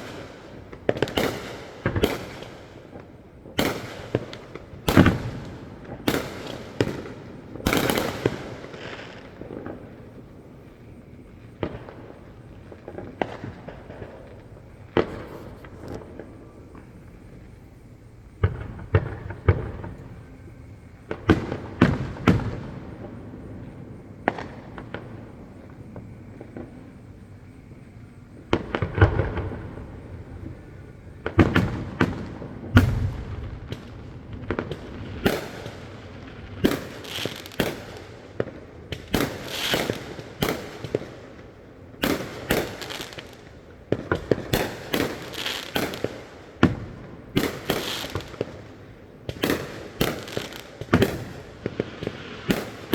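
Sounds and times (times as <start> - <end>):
rapid firework pops: 0.0 - 10.0, 12.8 - 17.6, 18.3 - 22.8, 24.2 - 48.6, 49.2 - 52.9.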